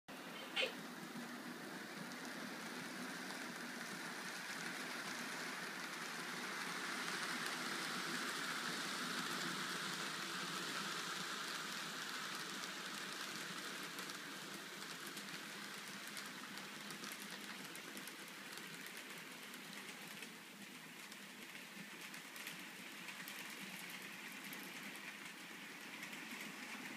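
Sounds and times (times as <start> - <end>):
model train wheels rattling on rail: 0.8 - 26.9.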